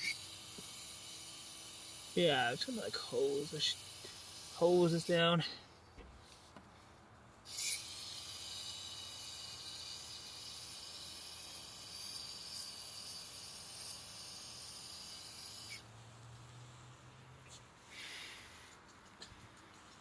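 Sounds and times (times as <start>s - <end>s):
aerosol spray hiss: 0.0s - 5.4s, 7.5s - 18.9s.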